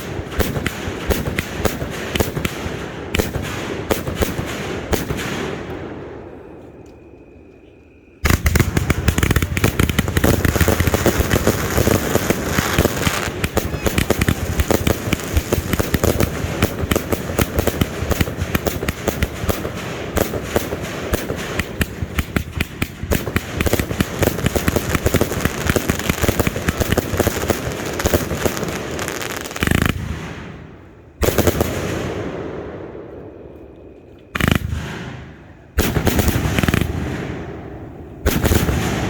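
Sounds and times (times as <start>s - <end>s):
firework barrage: 0.0s - 6.3s, 8.2s - 33.0s, 34.4s - 39.0s
loud firework bangs: 0.0s - 6.5s, 8.2s - 33.0s, 34.4s - 39.0s.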